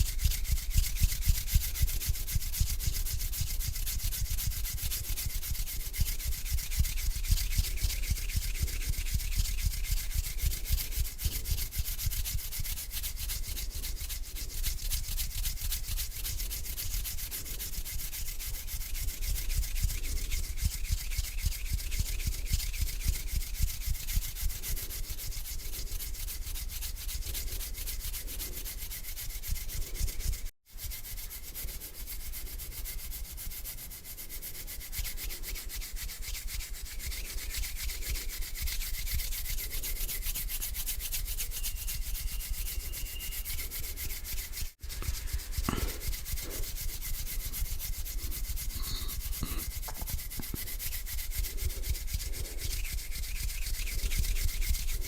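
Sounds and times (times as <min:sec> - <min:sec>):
hands rubbing together: 0:00.0 - 0:55.0.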